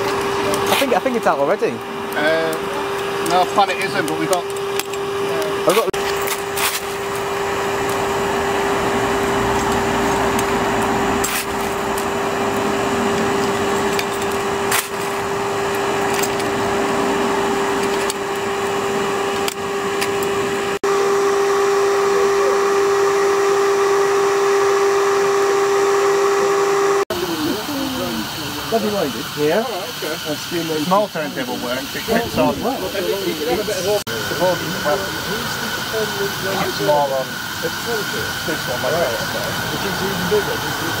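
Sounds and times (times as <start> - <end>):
electric blower fan whine: 0.0 - 41.0.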